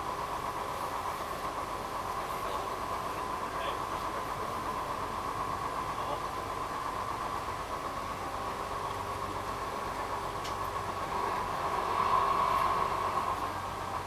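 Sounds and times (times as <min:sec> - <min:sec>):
constant whine: 0:00.0 - 0:14.0
light rail car rumble: 0:00.0 - 0:14.0.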